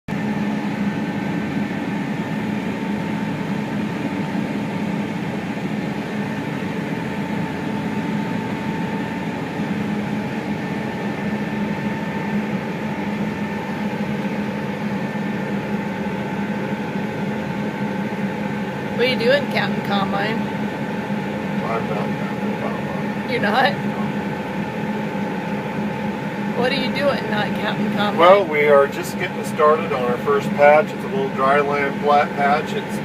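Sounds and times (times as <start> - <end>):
combine harvester running: 0.1 - 33.0.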